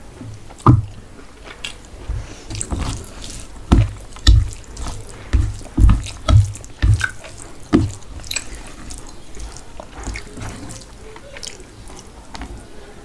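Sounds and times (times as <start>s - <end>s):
wet chewing and lip-smacking: 0.3s - 12.6s.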